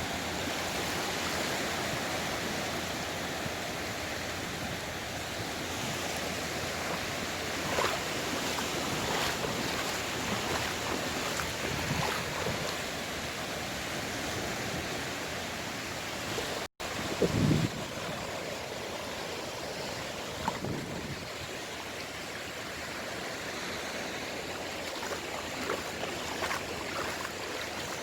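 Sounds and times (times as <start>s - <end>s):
water splashes: 0.0s - 15.1s, 16.0s - 28.0s
sea waves washing on shore: 0.0s - 28.0s.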